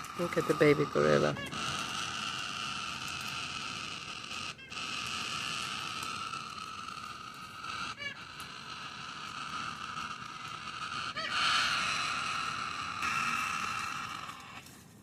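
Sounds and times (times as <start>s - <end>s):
young cockatoo rasping begging call: 0.0s - 14.8s.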